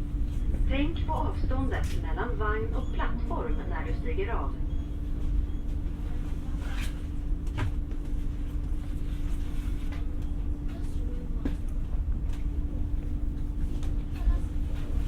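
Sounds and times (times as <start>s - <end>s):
constant hum: 0.0s - 15.0s
train interior rumble: 0.0s - 15.0s.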